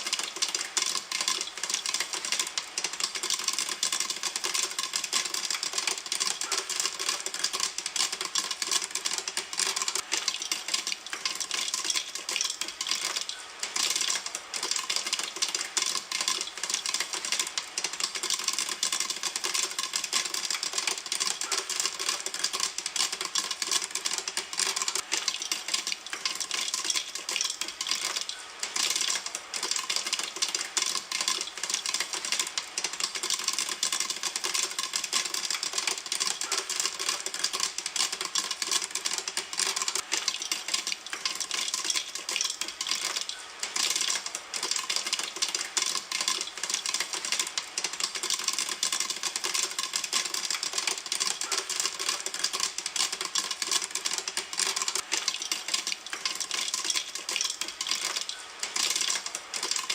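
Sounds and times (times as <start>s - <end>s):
popcorn popping in a pan: 0.0s - 59.9s.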